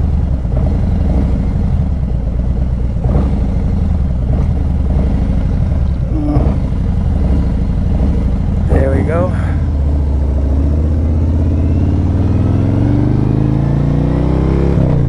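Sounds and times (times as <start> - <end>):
motorcycle engine idling: 0.0 - 13.9.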